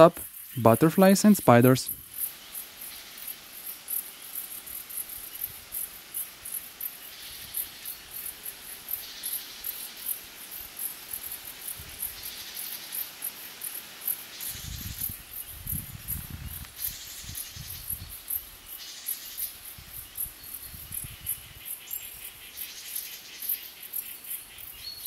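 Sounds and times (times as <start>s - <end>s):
insects chirping: 0.0s - 25.0s
low insect buzz: 1.9s - 25.0s.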